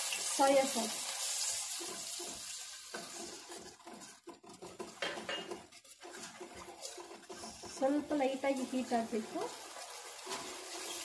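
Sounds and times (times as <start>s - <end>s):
sauce frying hiss: 0.0s - 4.3s, 6.1s - 11.0s
spoon scraping in metal pan: 1.0s - 11.0s.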